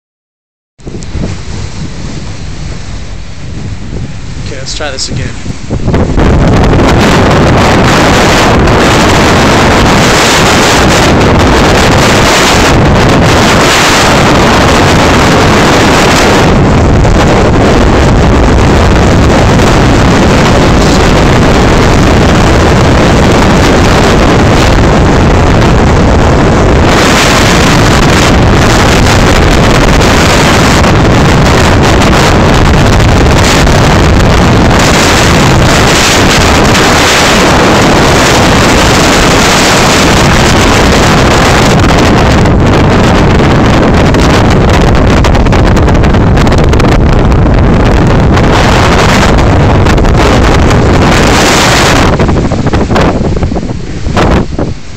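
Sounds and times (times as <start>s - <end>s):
storm wind roaring: 0.8s - 54.9s
wind buffeting microphone: 0.8s - 54.9s
lake water rushing: 0.9s - 54.9s.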